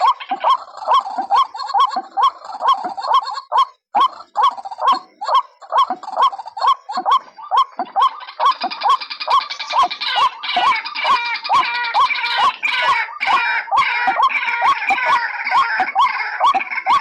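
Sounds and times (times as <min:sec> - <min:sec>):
waterhen short rising calls: 0:00.0 - 0:17.0.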